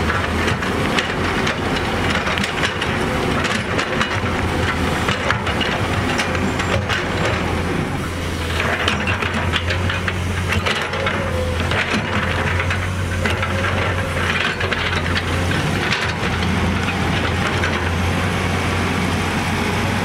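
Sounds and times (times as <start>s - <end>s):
metal clanks and rattles: 0.0s - 7.5s, 8.5s - 18.0s
diesel construction machine running: 0.0s - 20.0s.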